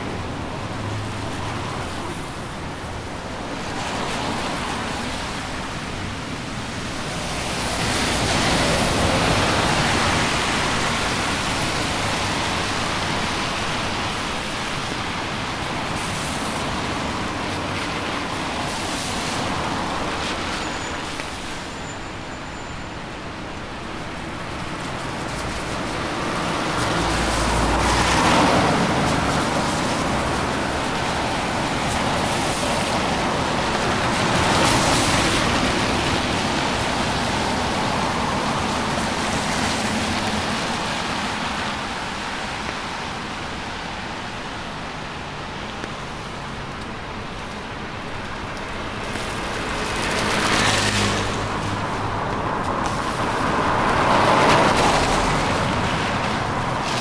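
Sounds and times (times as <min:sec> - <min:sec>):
car tyres hissing on wet road: 0:00.0 - 0:57.0
steady rain: 0:00.0 - 0:57.0.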